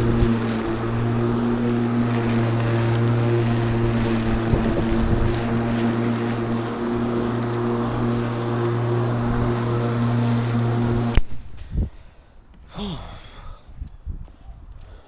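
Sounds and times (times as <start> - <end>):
electric lawn mower humming: 0.0 - 12.1.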